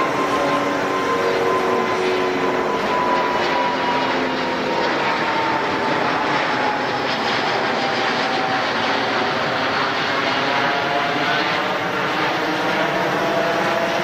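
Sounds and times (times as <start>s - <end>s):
jet engines passing overhead: 0.0s - 14.0s.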